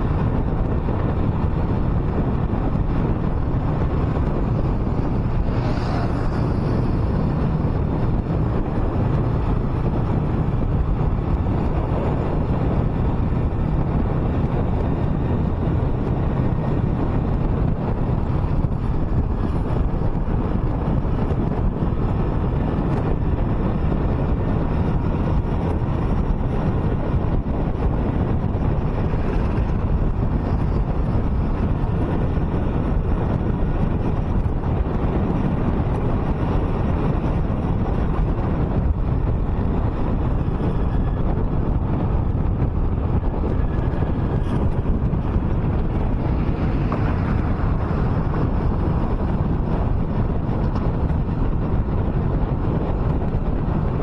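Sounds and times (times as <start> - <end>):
tyre and engine rumble: 0.0 - 54.0
wind noise on microphone: 0.0 - 54.0.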